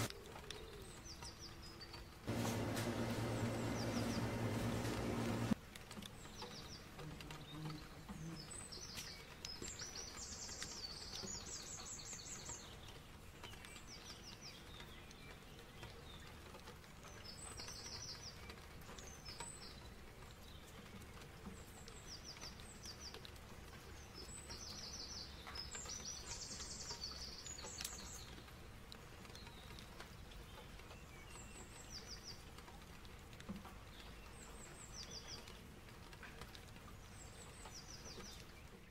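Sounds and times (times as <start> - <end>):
faint outdoor ambience: 0.0 - 38.9
small birds chirping: 0.0 - 38.9.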